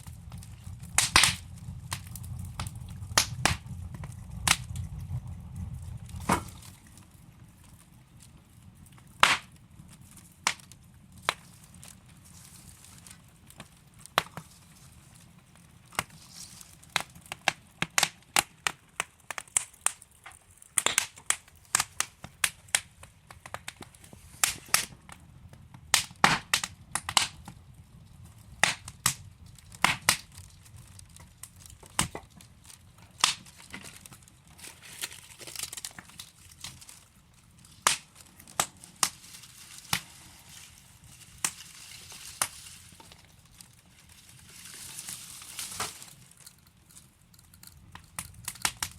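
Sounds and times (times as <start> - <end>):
low hiss of flame: 0.0 - 48.9
wood fire crackling: 0.0 - 48.9.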